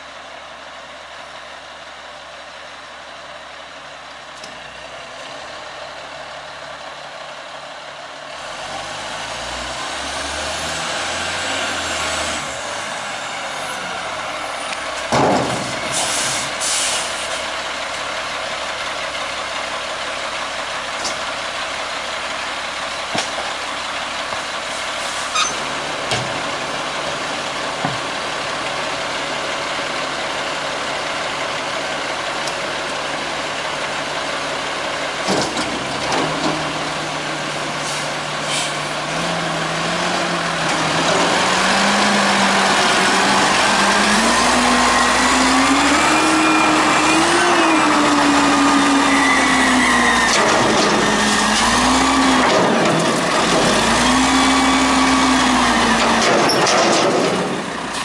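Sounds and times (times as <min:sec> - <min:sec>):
diesel garbage truck engine: 0:00.0 - 0:58.0.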